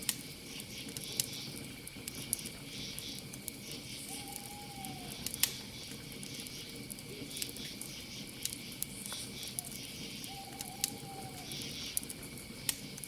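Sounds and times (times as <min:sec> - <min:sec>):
campfire crackling and popping: 0:00.0 - 0:13.0
night insects: 0:00.0 - 0:13.0.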